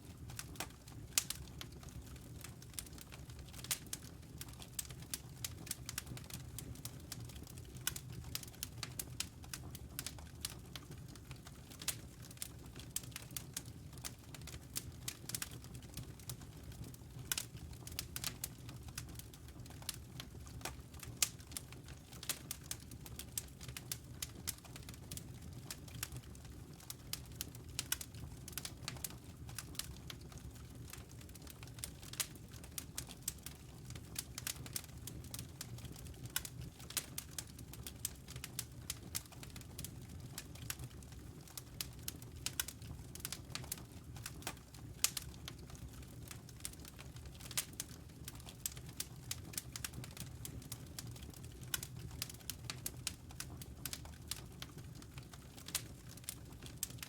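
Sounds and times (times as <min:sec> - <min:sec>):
low rumble of fire: 0:00.0 - 0:57.0
burning logs snapping and popping: 0:00.2 - 0:57.0.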